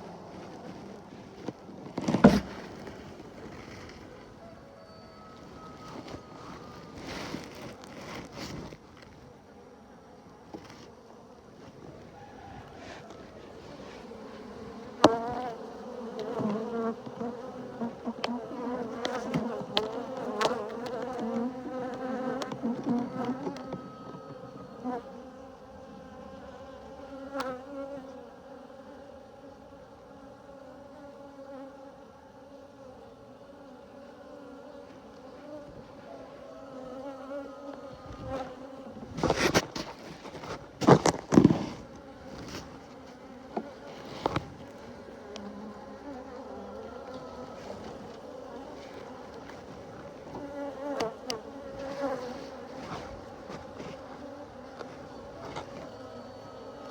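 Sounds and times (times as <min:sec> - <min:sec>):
honeybees buzzing: 0:00.0 - 0:56.9.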